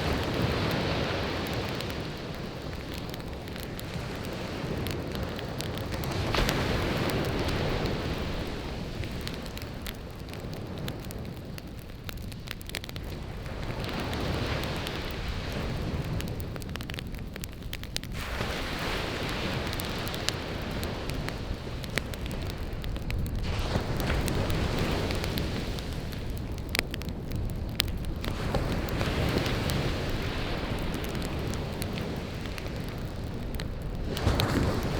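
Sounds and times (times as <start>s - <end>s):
campfire crackling and popping: 0.0s - 34.9s
sea waves washing ashore: 0.0s - 34.9s.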